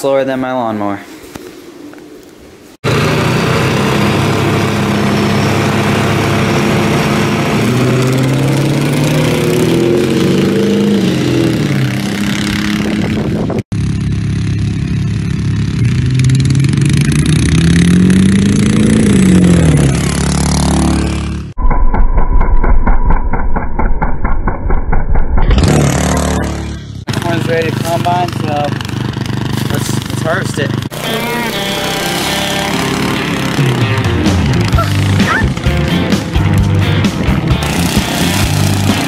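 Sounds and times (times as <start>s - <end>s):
diesel pickup engine accelerating: 2.8s - 21.6s, 25.5s - 39.0s
lawn mower engine revving: 2.8s - 21.6s, 25.4s - 39.0s.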